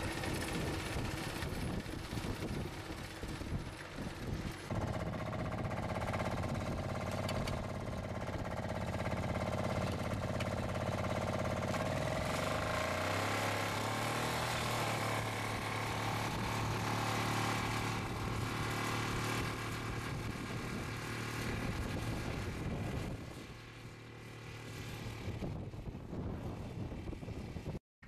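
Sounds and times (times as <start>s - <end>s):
walking tractor engine running: 0.0s - 27.6s
sickle-bar mower cutting grass: 0.0s - 27.7s.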